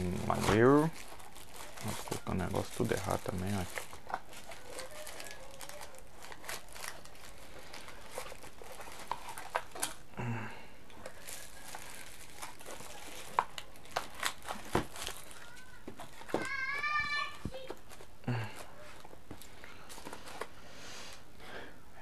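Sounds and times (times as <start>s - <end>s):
plastic bag crinkling: 0.0s - 10.1s, 11.0s - 20.5s.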